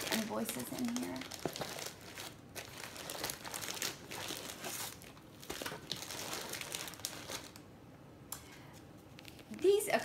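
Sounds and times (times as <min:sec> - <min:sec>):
plastic bag crinkling: 0:00.0 - 0:07.6, 0:09.1 - 0:09.6.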